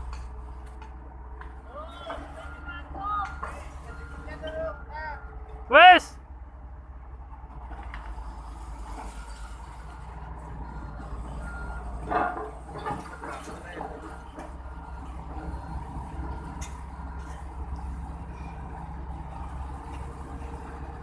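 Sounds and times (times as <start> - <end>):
diesel machinery rumbling: 0.0 - 21.0.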